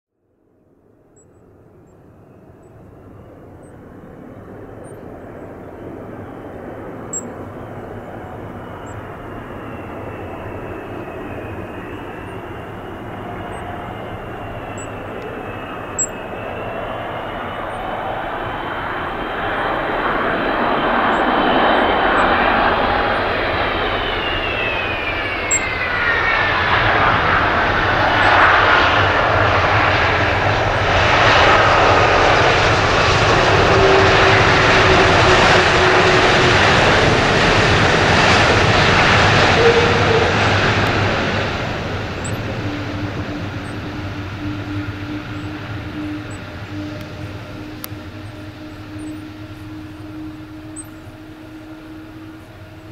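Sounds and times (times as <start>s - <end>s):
jet engine whine: 0.3s - 52.9s
jet engine rush: 1.4s - 52.9s.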